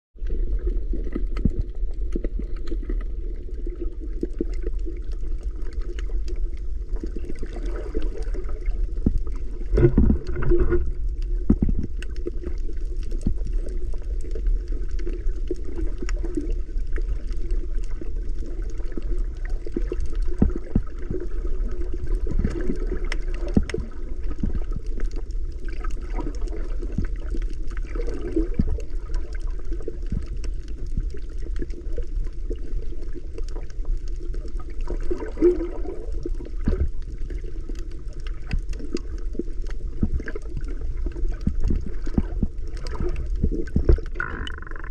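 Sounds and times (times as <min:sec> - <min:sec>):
gurgling bubbles underwater: 0:00.2 - 0:44.9
low underwater rumble: 0:00.2 - 0:44.9.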